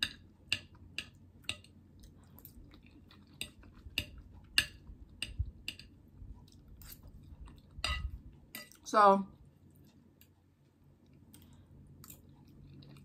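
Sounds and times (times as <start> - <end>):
person chewing: 0.6 - 8.8, 9.4 - 13.0.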